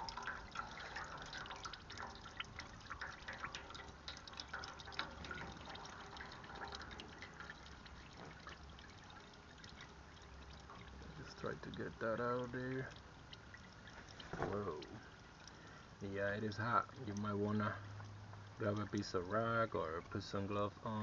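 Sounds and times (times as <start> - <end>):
oil dripping into a pan: 0.0 - 21.0.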